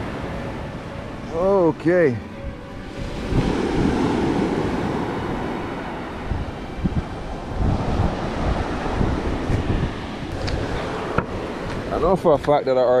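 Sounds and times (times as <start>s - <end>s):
ocean waves breaking: 0.0s - 13.0s
wind buffeting microphone: 0.0s - 13.0s.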